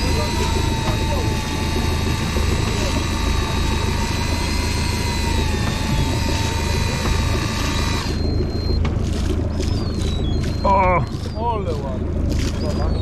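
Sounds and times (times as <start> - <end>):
boat engine running: 0.0 - 13.0
thin mechanical whine: 0.0 - 13.0.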